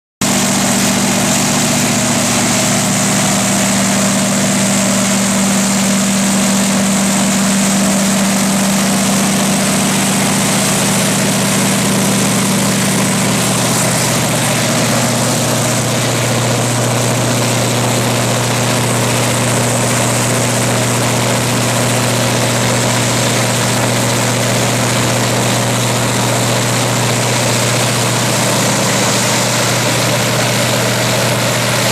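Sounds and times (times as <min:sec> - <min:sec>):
diesel generator running: 0:00.2 - 0:31.9.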